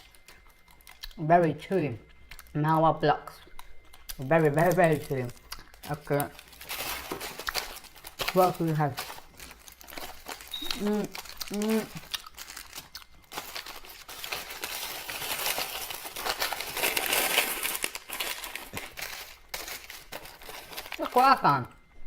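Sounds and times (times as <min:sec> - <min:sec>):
candy wrappers crinkling: 0:02.2 - 0:21.9.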